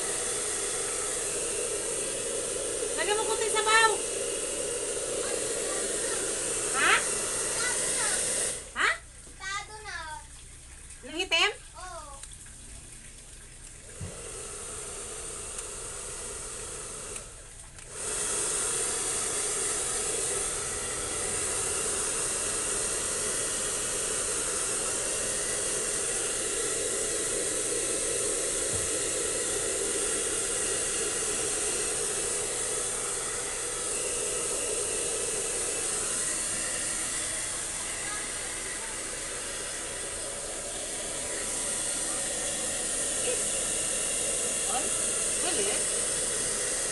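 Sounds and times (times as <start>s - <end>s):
hair dryer blowing: 0.0s - 9.0s, 13.8s - 46.9s.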